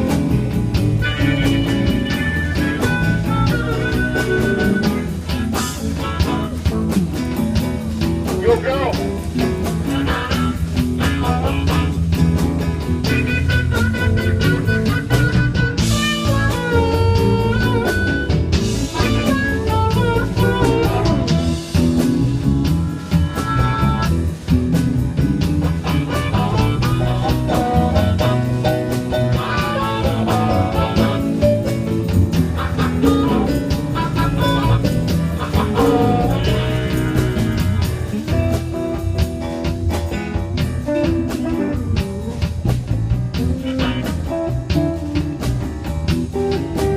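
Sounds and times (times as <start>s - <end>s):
lead guitar bending notes: 0.0s - 46.9s
live blues band: 0.0s - 46.9s.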